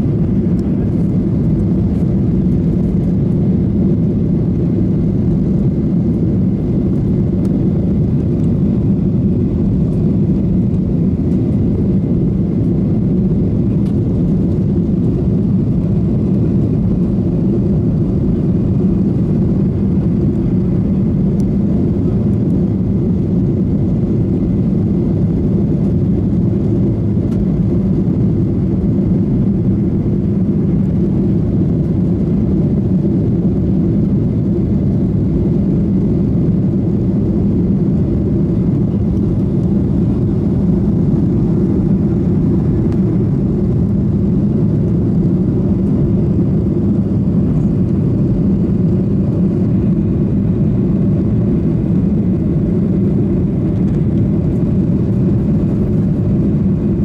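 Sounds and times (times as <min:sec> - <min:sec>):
deep jet engine roar: 0:00.0 - 0:57.0.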